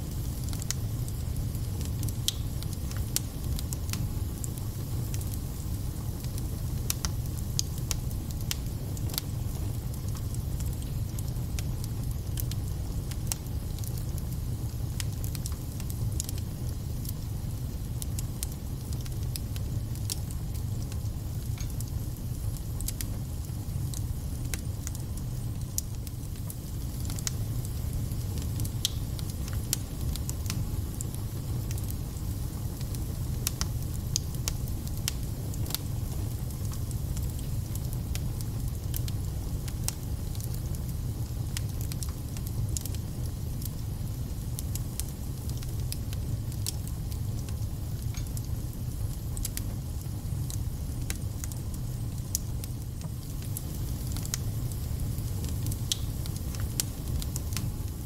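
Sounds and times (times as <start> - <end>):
low rumble of fire: 0.0 - 58.0.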